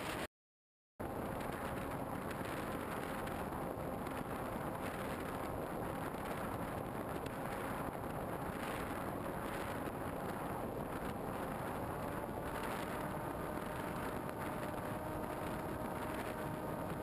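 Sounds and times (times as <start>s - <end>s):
wind rushing over camera: 0.0s - 0.3s, 1.0s - 17.0s
faint motor hum: 1.0s - 17.0s.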